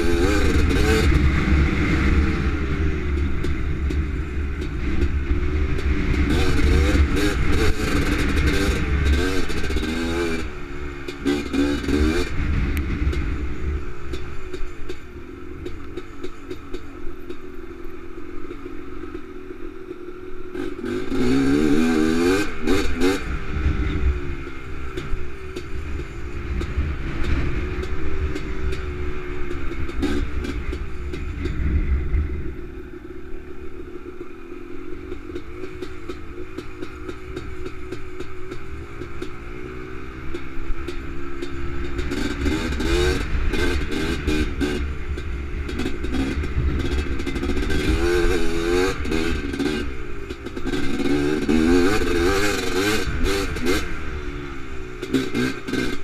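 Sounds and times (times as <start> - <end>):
quad engine revving: 0.0 - 13.6, 20.5 - 32.5, 35.0 - 56.0.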